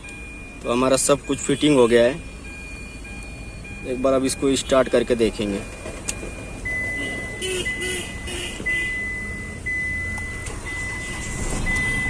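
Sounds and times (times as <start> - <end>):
dashboard warning chime beeping: 0.0 - 12.0.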